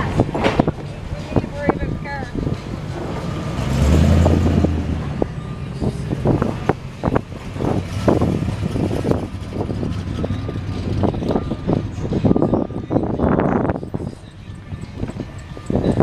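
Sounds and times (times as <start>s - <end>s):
car engine rumble: 0.0s - 16.0s
lumpy exhaust burble: 0.0s - 16.0s.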